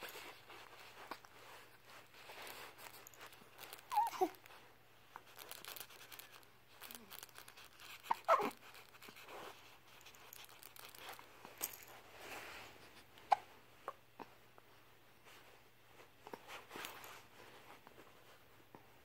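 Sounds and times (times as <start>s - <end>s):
faint rustling: 0.0s - 19.0s.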